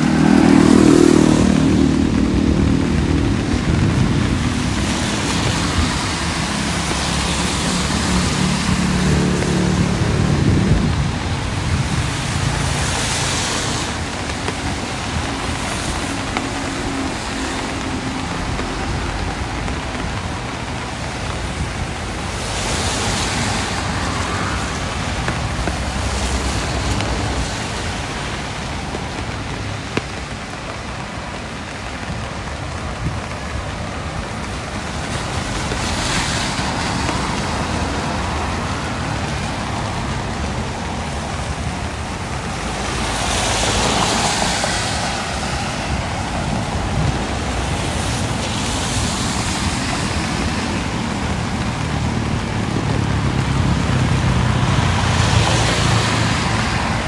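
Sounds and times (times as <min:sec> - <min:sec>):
street traffic hiss and rumble: 0:00.0 - 0:57.0
vehicles passing close by: 0:00.0 - 0:57.0.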